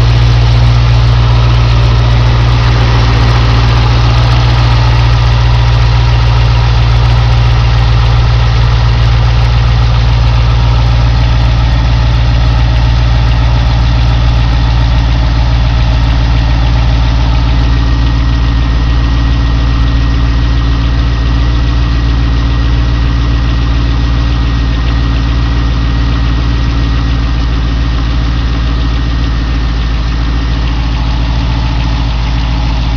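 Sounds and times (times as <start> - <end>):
car engine idling: 0.0 - 32.9
engine ticking: 0.0 - 32.9.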